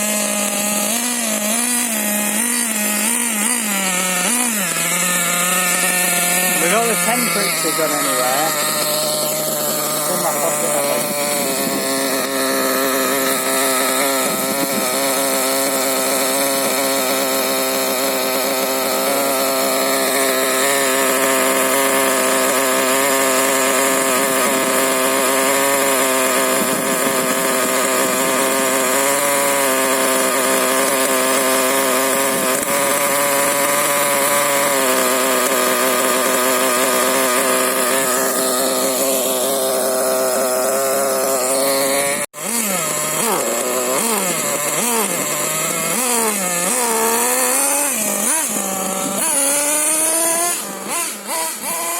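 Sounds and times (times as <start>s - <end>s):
small nitro engine running: 0.0s - 51.9s.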